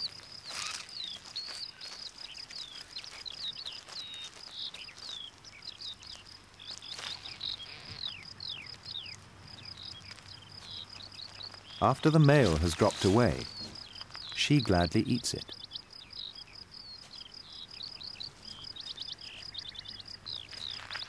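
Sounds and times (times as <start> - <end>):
birds whistling: 0.0 - 21.0
insect trilling: 0.0 - 21.0.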